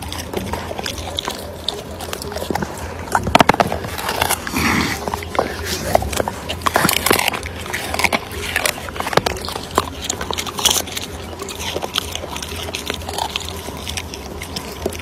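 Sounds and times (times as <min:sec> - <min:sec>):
dog crunching vegetables: 0:00.0 - 0:15.0
steady low hum: 0:00.0 - 0:15.0.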